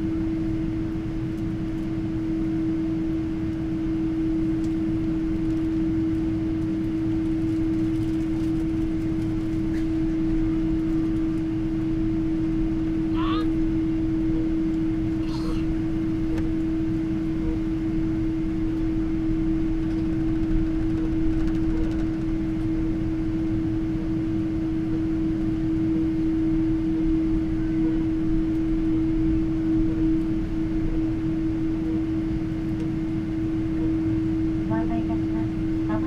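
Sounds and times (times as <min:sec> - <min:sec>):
airliner cabin hum: 0:00.0 - 0:36.0
steady droning tone: 0:00.0 - 0:36.0.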